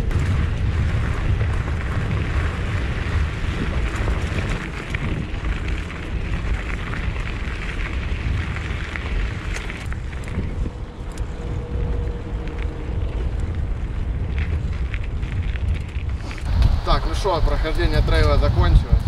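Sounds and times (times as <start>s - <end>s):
bike clicks and rattles: 0.0s - 19.0s
tyres rumbling on dirt trail: 0.0s - 19.0s
wind buffeting microphone: 0.0s - 19.0s.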